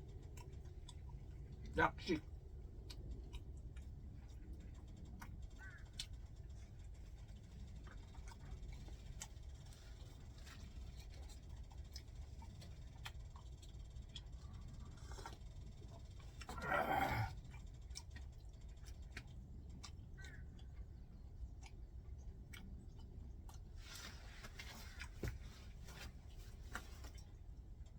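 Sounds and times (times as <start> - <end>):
chewing and handling food: 0.0 - 27.9.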